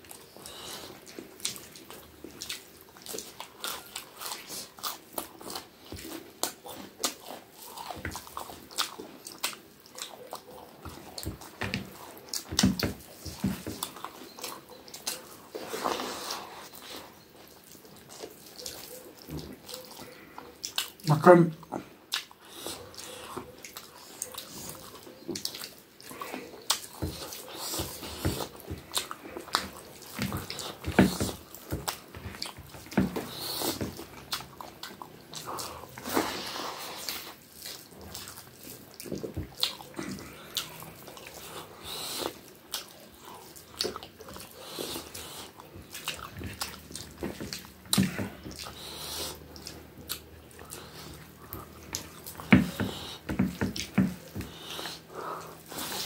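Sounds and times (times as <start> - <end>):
wet chewing and lip smacks: 0.0 - 56.0.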